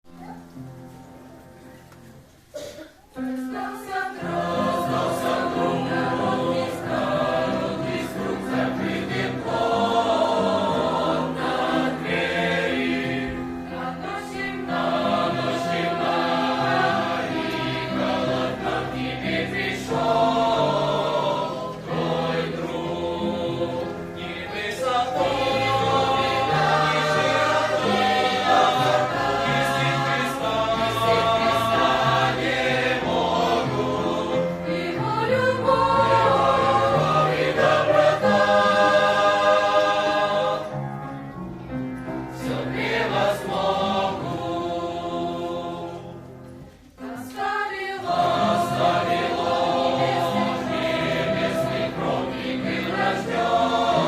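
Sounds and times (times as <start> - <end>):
choir singing a hymn: 2.6 - 54.0.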